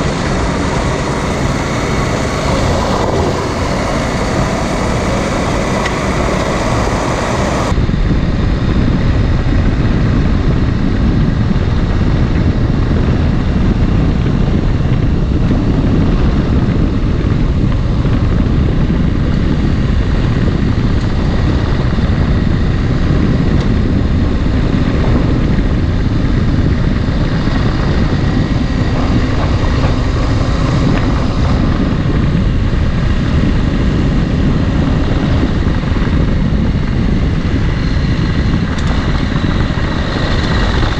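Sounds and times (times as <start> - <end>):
low wind rumble on microphone: 0.0 - 40.9
motorcycle engine running: 0.0 - 40.9.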